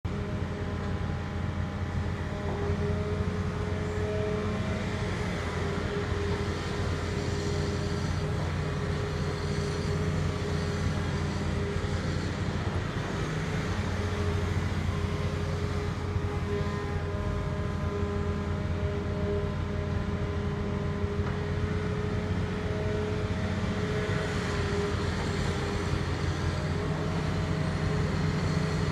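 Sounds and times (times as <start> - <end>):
heavy engine humming: 0.0 - 28.9.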